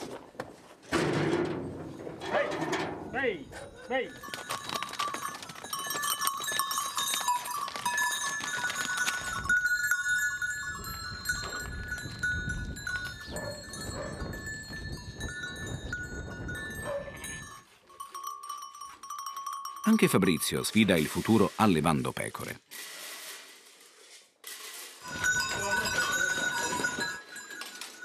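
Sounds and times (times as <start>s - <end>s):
sheep bells clanking and jingling: 1.6s - 22.0s, 25.0s - 28.0s.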